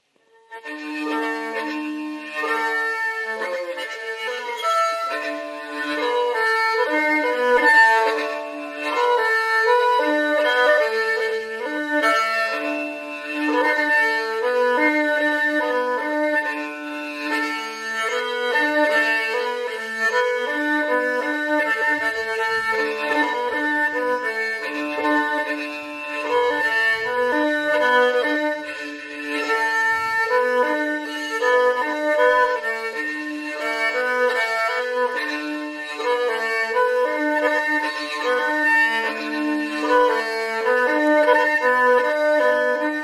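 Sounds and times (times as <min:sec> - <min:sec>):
bowed spike fiddle melody: 0:00.5 - 0:43.0.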